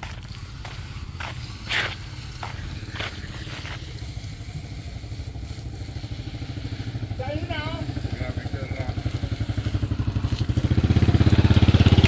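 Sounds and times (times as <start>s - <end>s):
small engine rumbling: 0.0s - 12.0s.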